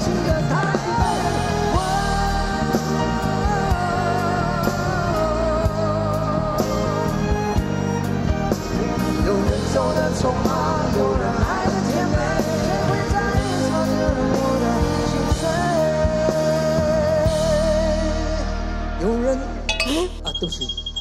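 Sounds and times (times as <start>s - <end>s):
man singing into a microphone: 0.0s - 7.3s, 9.1s - 19.7s
live band music: 0.0s - 21.0s.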